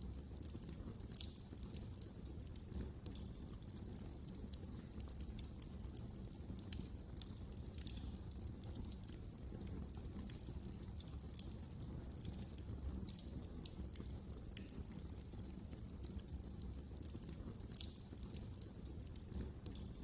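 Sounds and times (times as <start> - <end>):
fire crackling and popping: 0.0 - 20.0
low rumble of burning: 0.0 - 20.0.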